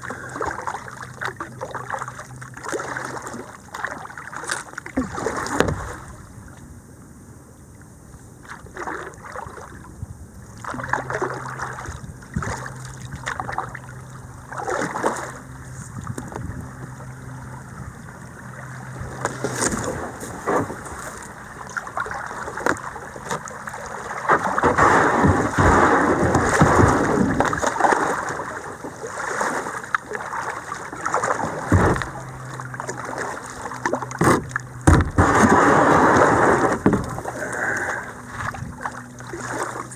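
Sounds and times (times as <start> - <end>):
paddle strokes and splashes: 0.0 - 6.7, 7.7 - 39.9
flowing water: 0.0 - 7.0, 7.6 - 39.9.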